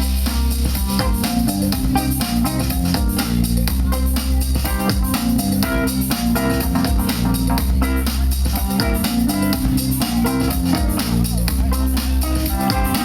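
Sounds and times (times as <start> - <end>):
bass guitar: 0.0 - 13.0
drum kit beat: 0.0 - 13.0
guitar: 0.0 - 13.0.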